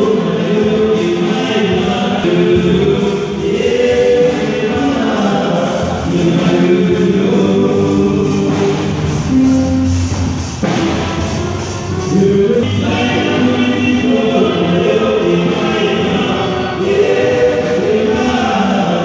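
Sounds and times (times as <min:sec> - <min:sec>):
choir singing gospel music: 0:00.0 - 0:19.0.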